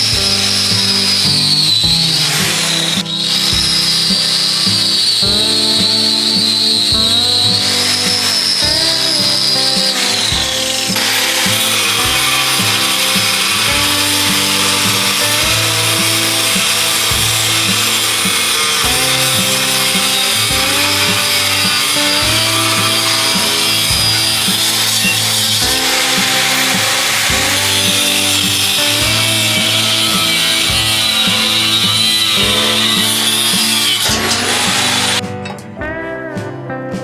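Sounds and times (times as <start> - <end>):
power tool whining on metal: 0.0 - 35.2
background music with held notes: 0.0 - 37.0.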